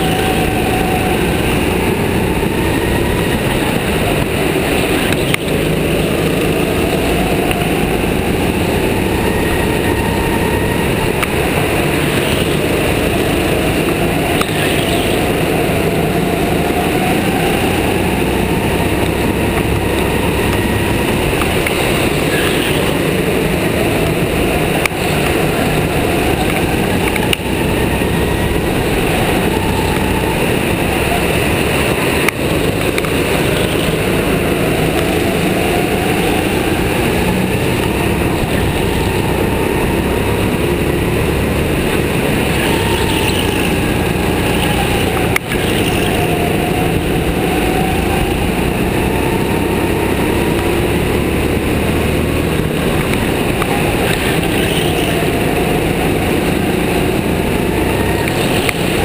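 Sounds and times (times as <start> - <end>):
constant noisy rush: 0.0 - 59.0
go-kart engine revving: 0.0 - 59.0.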